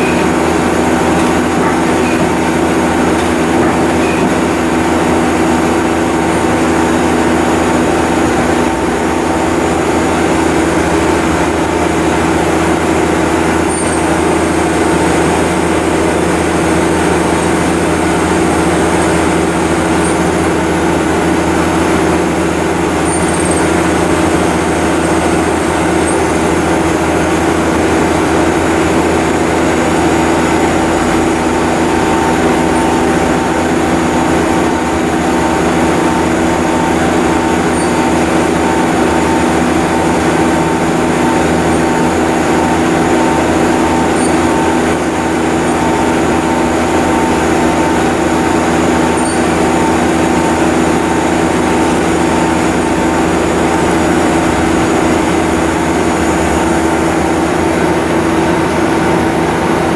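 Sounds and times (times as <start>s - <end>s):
lathe machine hum: 0.0s - 59.9s.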